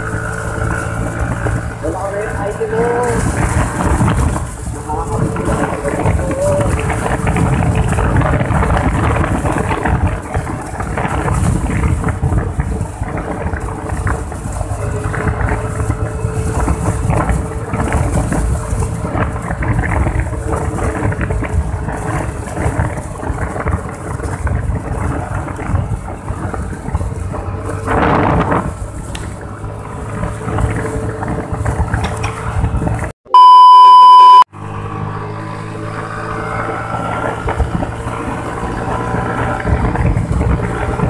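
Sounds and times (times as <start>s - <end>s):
wind buffeting microphone: 0.0s - 33.2s, 34.7s - 41.0s
scooter engine humming: 0.0s - 41.0s.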